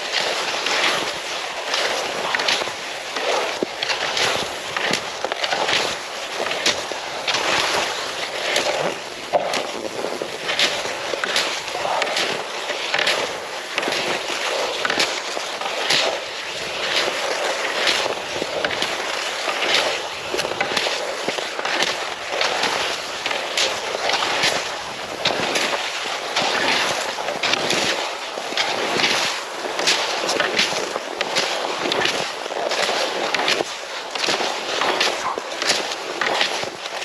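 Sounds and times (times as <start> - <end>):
skis scraping over icy snow: 0.0 - 37.0
pole plant crunch: 0.1 - 28.0, 28.6 - 37.0.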